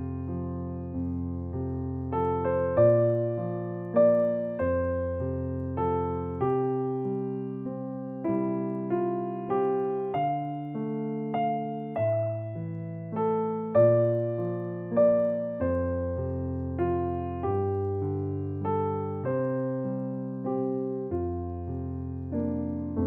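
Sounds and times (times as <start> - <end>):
gentle piano piece: 0.0 - 23.0.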